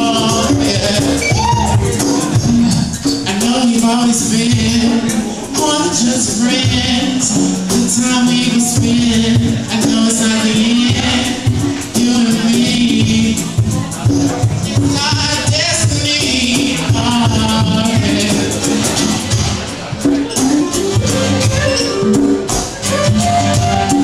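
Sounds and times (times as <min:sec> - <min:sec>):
man singing: 0:00.0 - 0:20.0
acoustic guitar strumming: 0:00.0 - 0:24.0.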